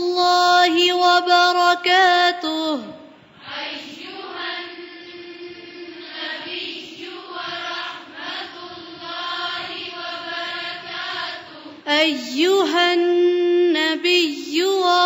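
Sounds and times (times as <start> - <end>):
recitation: 0.0 - 15.0
soft chanting voice: 0.0 - 15.0.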